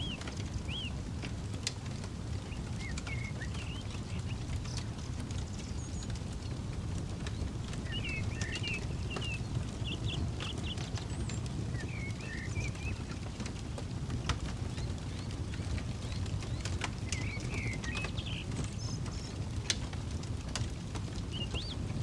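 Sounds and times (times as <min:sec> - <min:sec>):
campfire crackling and popping: 0:00.0 - 0:22.0
low steady rumble: 0:00.0 - 0:22.0
small birds chirping: 0:00.0 - 0:22.0.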